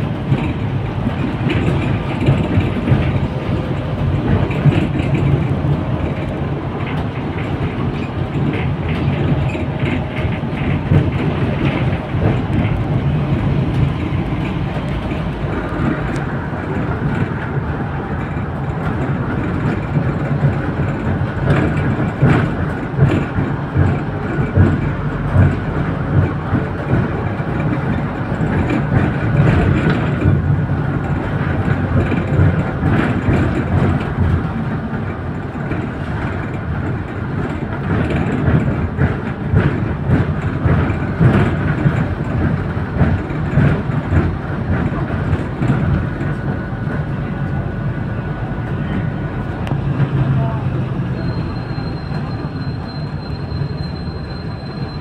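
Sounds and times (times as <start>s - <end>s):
bodywork rattles and knocks: 0.0s - 54.7s
bus diesel engine: 0.0s - 55.0s
road noise: 0.0s - 55.0s.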